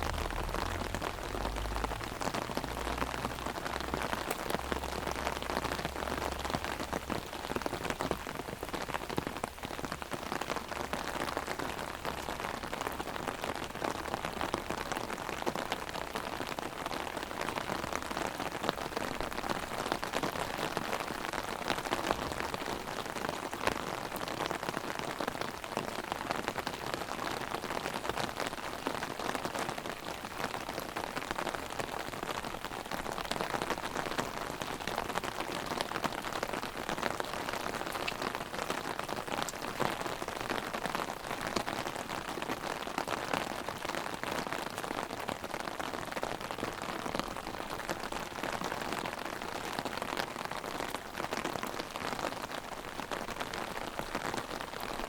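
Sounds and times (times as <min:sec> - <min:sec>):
heavy rain on an umbrella: 0:00.0 - 0:55.0.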